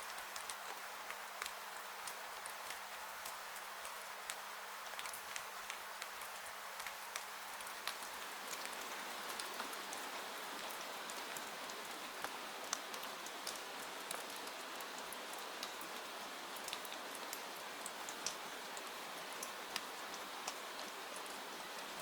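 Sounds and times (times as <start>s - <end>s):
steady rain hissing: 0.0s - 22.0s.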